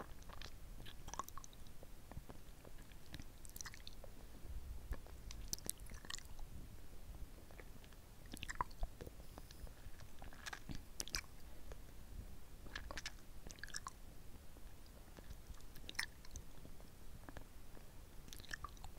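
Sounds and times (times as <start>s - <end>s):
mouth smacking and clicking: 0.0s - 4.1s, 4.9s - 6.5s, 7.5s - 11.8s, 12.7s - 14.0s, 14.8s - 18.9s.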